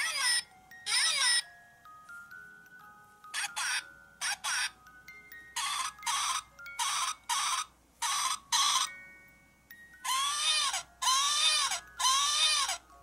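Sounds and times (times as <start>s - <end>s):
doll baby crying: 0.0s - 1.6s, 3.2s - 9.1s, 9.9s - 13.0s.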